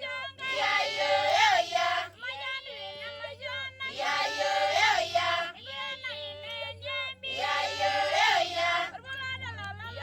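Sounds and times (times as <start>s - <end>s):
voices singing together: 0.0s - 10.0s.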